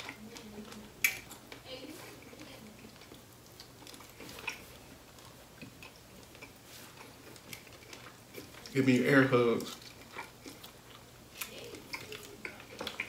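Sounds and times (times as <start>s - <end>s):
chewing and mouth sounds: 0.0s - 13.0s.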